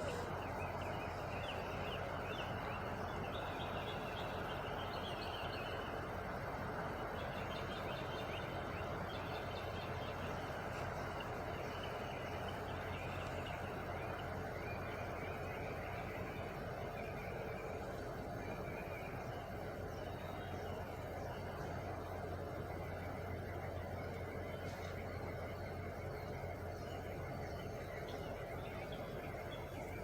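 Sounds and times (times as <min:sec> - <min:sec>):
birds chirping: 0:00.0 - 0:30.0
truck engine idling: 0:00.0 - 0:30.0.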